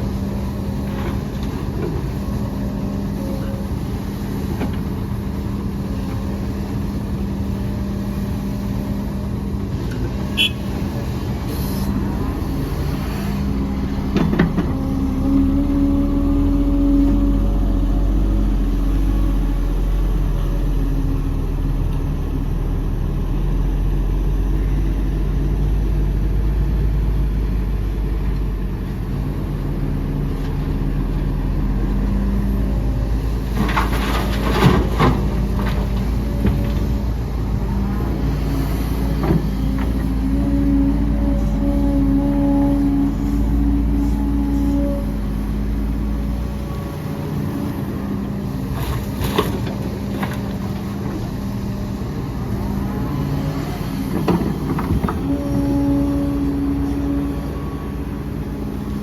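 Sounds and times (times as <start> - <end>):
diesel machinery engine hum: 0.0 - 59.0.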